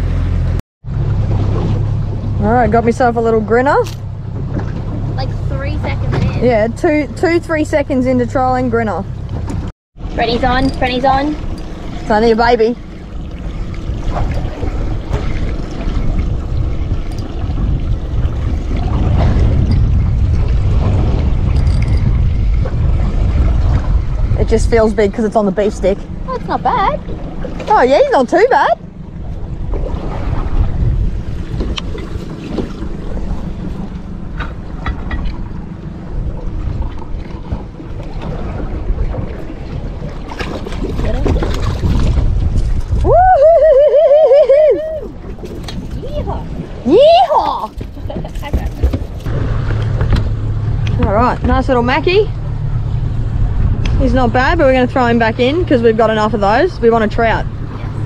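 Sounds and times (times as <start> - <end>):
outboard motor running: 0.0 - 58.0
wind and water rumble: 0.0 - 58.0.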